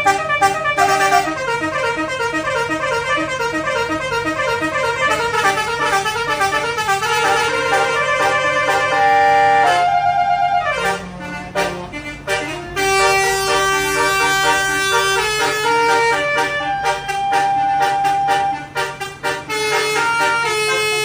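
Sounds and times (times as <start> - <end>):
musical bus horn melody: 0.0 - 21.0.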